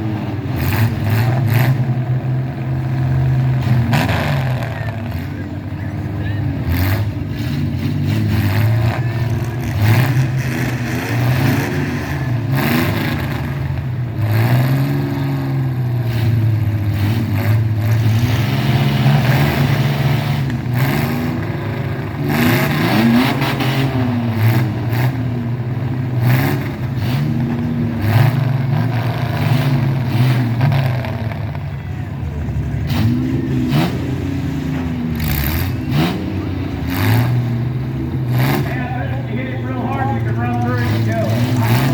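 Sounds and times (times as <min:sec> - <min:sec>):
truck engines revving: 0:00.0 - 0:41.9.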